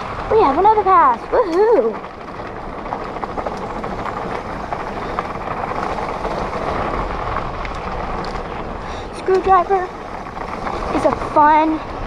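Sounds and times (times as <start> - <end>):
bike tyre noise: 0.0 - 12.0
wind rush: 0.0 - 12.0
light clicks and rattles: 0.2 - 12.0.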